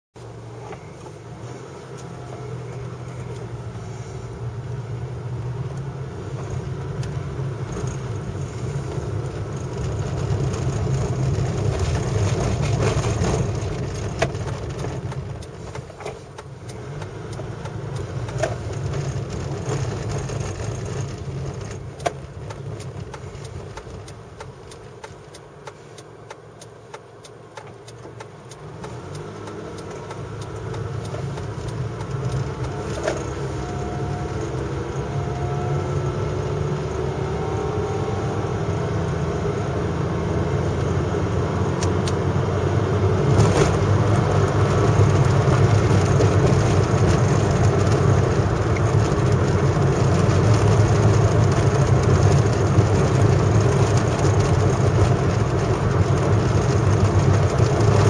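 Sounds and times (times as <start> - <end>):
car engine and tyre noise: 0.1 - 58.0.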